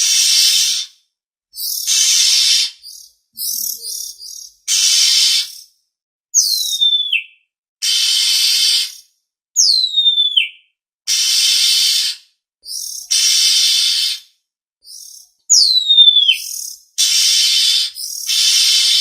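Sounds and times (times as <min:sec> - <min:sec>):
harsh rasping bird calls: 0:00.0 - 0:01.0, 0:01.6 - 0:05.7, 0:06.4 - 0:19.0.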